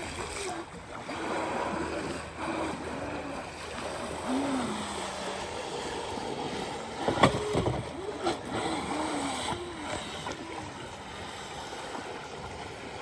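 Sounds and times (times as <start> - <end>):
boat motor whining: 0.0 - 13.0.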